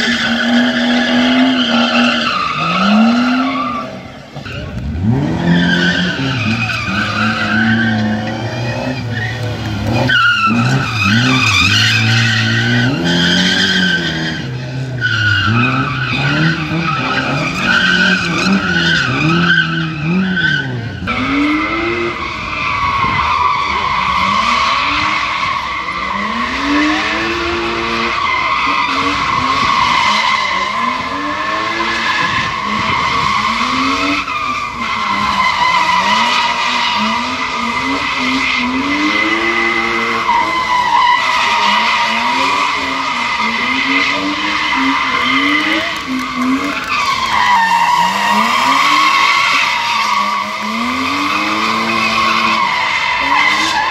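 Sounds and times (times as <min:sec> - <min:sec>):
tyres squealing: 0:00.0 - 0:26.4, 0:28.1 - 0:53.9
car engines revving: 0:00.0 - 0:53.9.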